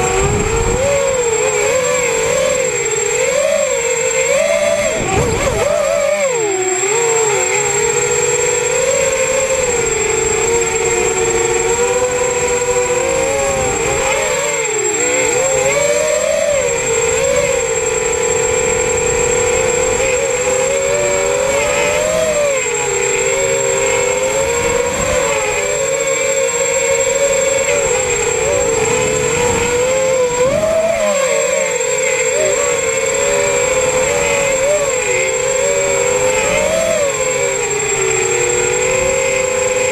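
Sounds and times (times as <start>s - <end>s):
quadcopter motors whining: 0.0s - 39.9s
thin high whine: 0.0s - 39.9s.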